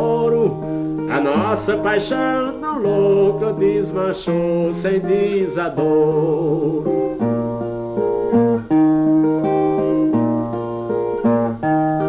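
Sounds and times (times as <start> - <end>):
plucked viola chords: 0.0 - 12.0.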